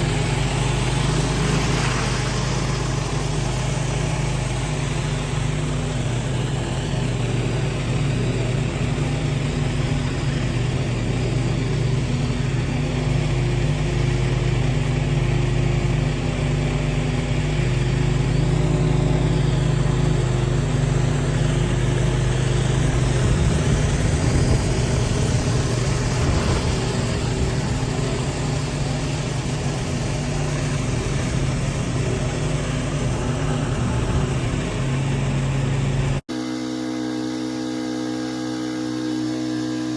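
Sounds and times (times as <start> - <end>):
high-pressure water spray hiss: 0.0 - 39.9
pressure washer engine running: 0.0 - 39.9.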